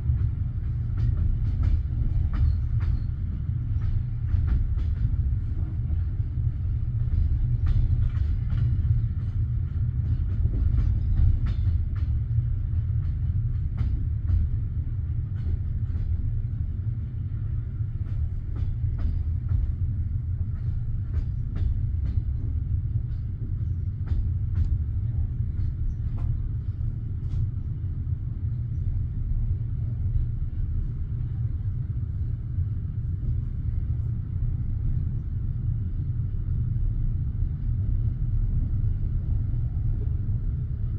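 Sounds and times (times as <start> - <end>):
railway carriage rumble: 0.0 - 40.9.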